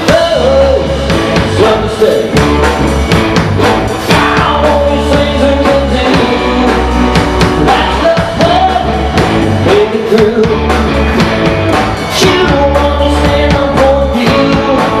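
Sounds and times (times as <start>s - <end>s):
person singing: 0.0s - 2.7s, 4.0s - 15.0s
rock band playing live: 0.0s - 15.0s.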